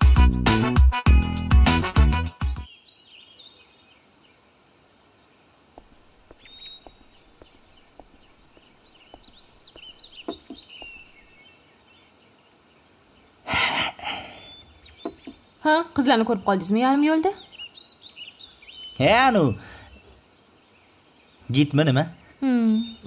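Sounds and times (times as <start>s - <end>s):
small birds chirping: 2.6s - 23.0s.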